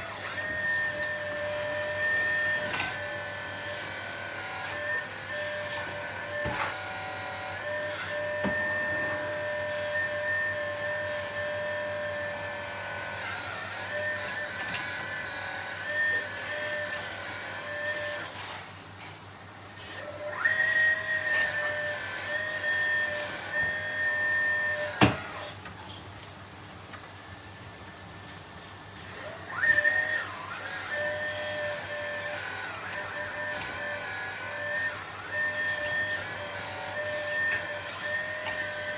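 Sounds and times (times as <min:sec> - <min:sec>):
electric pump motor whining: 0:00.0 - 0:25.9, 0:28.8 - 0:38.9.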